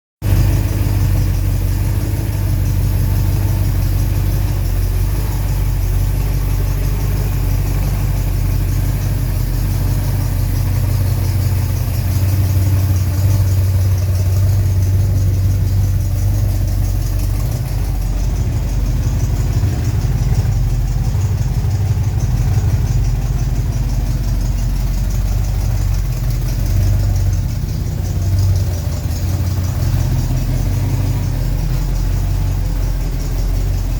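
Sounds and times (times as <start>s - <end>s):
car engine idling: 0.2s - 33.9s.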